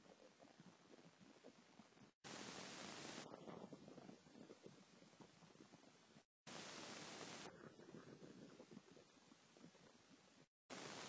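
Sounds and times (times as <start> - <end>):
microphone hiss and crackle: 0.0 - 11.0.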